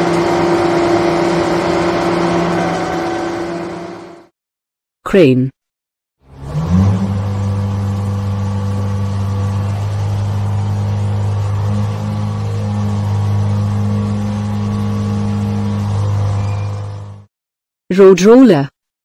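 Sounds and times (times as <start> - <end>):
crane engine droning: 0.0 - 4.3, 6.2 - 17.3.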